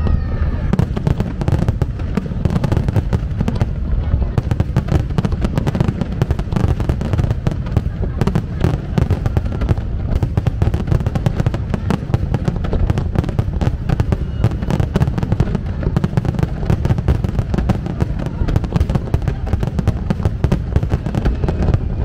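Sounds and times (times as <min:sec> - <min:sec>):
fireworks bursts and crackles: 0:00.0 - 0:22.0
fireworks low booms: 0:00.0 - 0:22.0.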